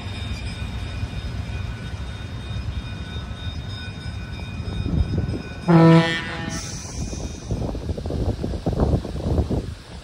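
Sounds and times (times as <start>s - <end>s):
train rumbling along track: 0.0s - 10.0s.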